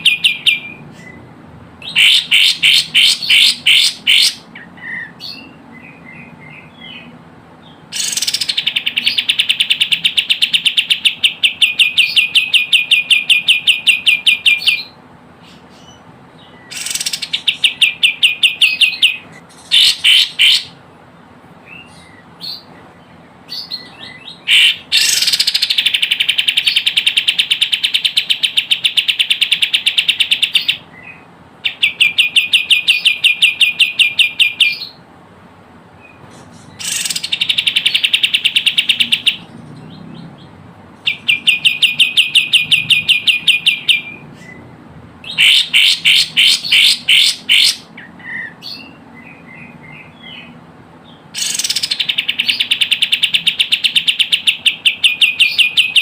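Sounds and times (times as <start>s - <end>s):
bird chattering calls: 0.0s - 1.2s, 1.8s - 7.1s, 7.8s - 20.8s, 23.5s - 35.0s, 36.1s - 44.6s, 45.2s - 56.0s.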